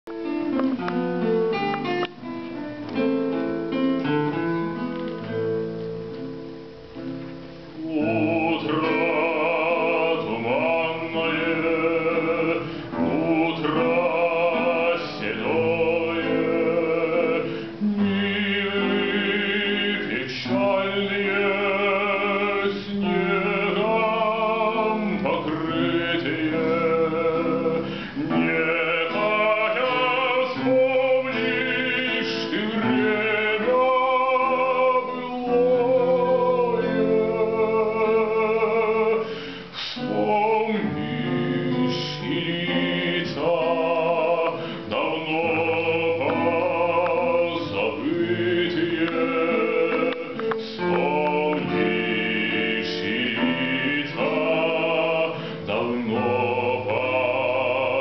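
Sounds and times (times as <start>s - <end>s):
plucked classical guitar: 0.1s - 58.0s
man singing operatically: 7.5s - 58.0s.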